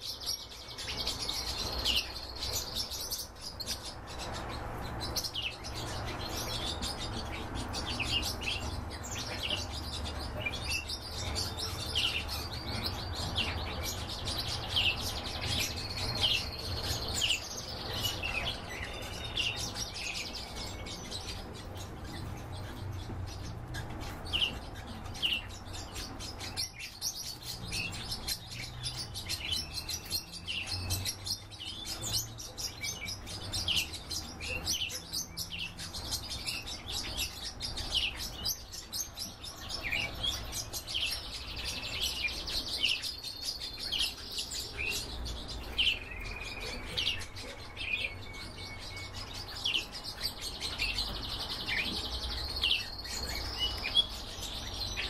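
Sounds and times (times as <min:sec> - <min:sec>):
finches chirping and twittering: 0:00.0 - 0:55.0.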